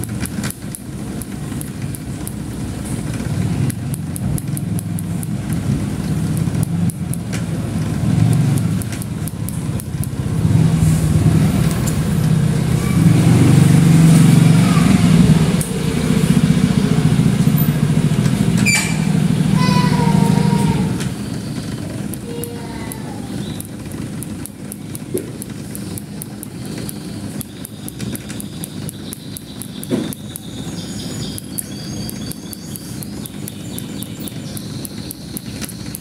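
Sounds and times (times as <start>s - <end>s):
engine running low rumble: 0.0s - 36.0s.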